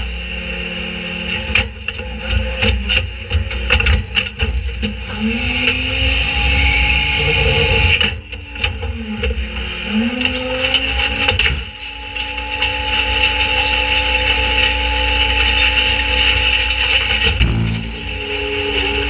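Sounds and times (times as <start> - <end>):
garbage truck hydraulic drone and whine: 0.0 - 19.0.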